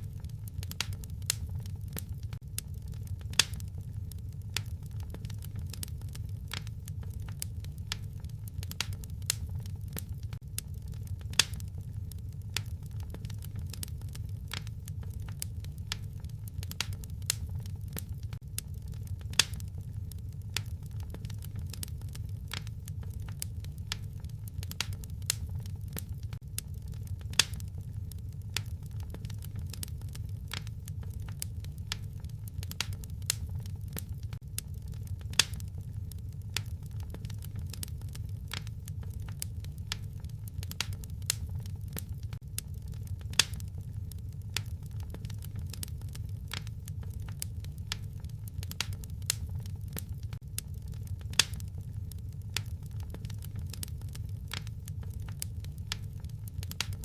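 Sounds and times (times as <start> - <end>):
fire pops: 0.0 - 57.0
wood fire crackling: 0.0 - 57.0.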